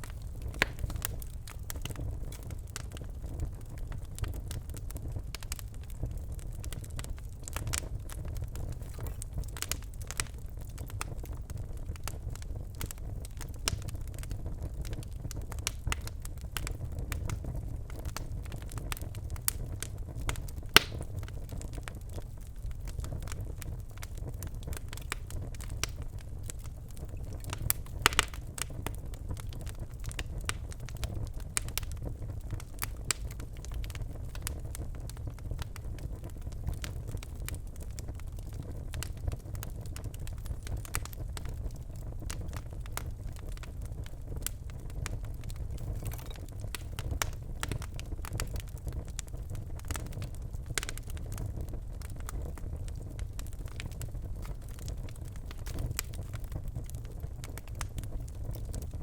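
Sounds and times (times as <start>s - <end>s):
flames rumbling: 0.0s - 59.0s
wood fire crackling: 0.0s - 59.0s.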